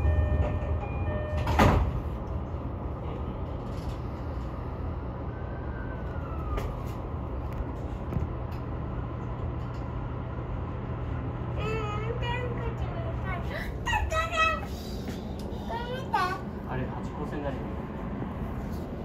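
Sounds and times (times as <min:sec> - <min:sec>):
diesel railcar rumbling: 0:00.0 - 0:19.0.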